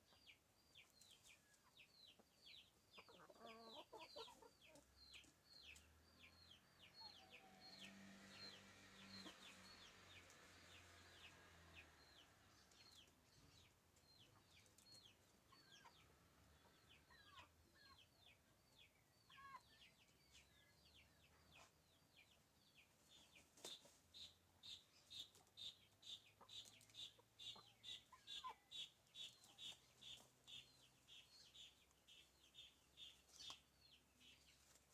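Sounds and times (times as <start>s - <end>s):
faint bird chirping: 0.0s - 34.9s.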